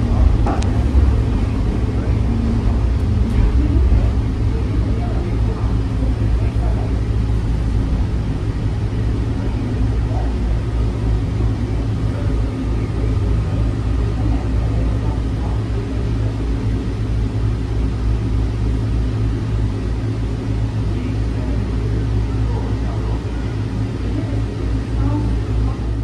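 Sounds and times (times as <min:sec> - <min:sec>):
faint hum of steady tones: 0:00.0 - 0:26.0
people-mover train rumbling: 0:00.0 - 0:26.0.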